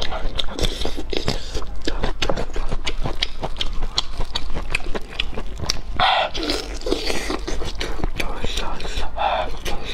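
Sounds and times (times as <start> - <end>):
wet chewing and mouth clicks: 0.0 - 9.9.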